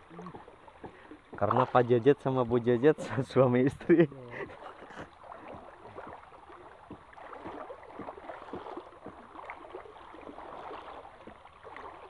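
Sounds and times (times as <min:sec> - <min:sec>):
small splashes: 0:00.0 - 0:03.4, 0:04.0 - 0:12.0
stream water sloshing and gurgling: 0:00.0 - 0:12.0.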